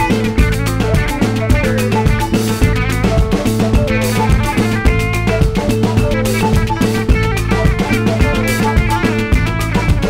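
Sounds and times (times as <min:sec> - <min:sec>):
bass line: 0:00.0 - 0:10.0
drum kit beat: 0:00.0 - 0:10.0
plucked guitar: 0:00.0 - 0:10.0.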